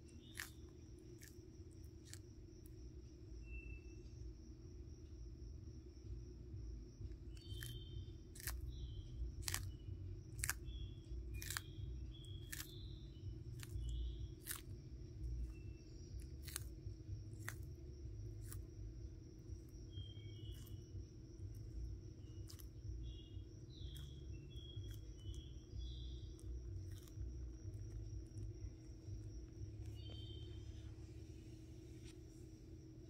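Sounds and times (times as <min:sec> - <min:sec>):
tortoise crunching lettuce: 0:00.0 - 0:02.8, 0:07.2 - 0:32.8.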